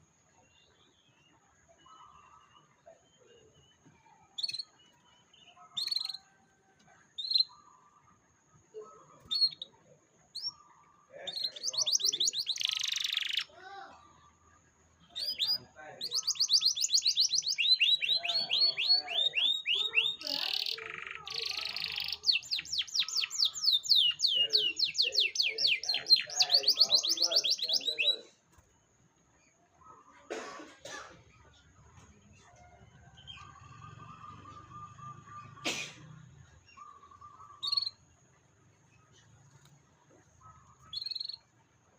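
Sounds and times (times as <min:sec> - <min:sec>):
canary singing trills: 0:00.0 - 0:30.2, 0:31.2 - 0:41.6.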